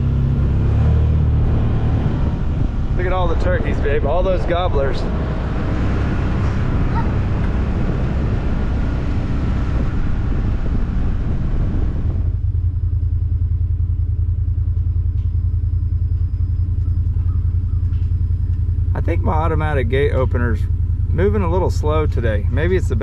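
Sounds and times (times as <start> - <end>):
utility vehicle engine idling: 0.0 - 23.0.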